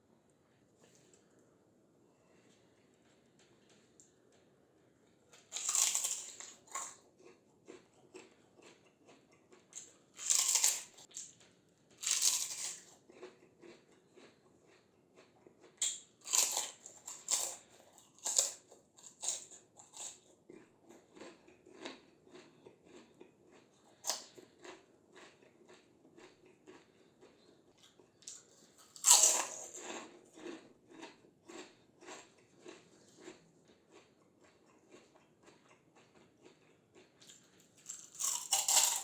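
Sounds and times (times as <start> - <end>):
crunching of crispy fried snacks: 5.3 - 39.0.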